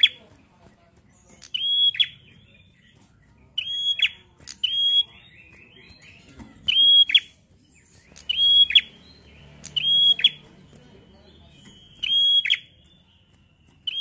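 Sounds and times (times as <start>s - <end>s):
songbird calling: 0.0s - 14.0s.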